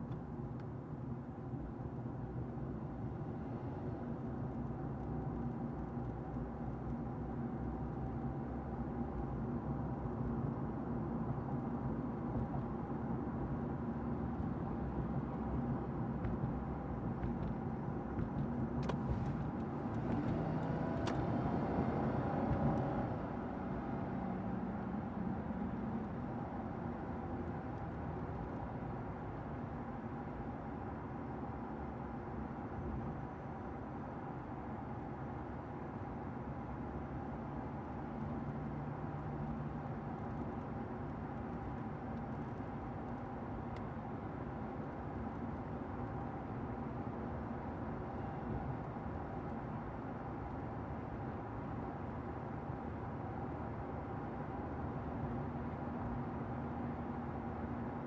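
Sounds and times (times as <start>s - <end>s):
car cabin road and engine noise: 0.0s - 58.0s.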